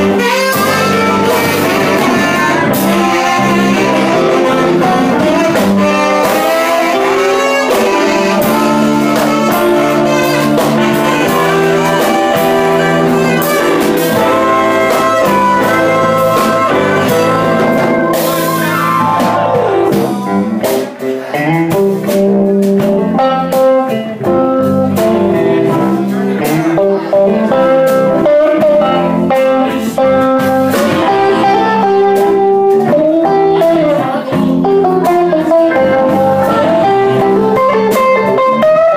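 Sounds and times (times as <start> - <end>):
drums: 0.0 - 38.9
electric guitars: 0.0 - 38.9
keyboard: 0.0 - 38.9
saxophone: 0.0 - 38.9.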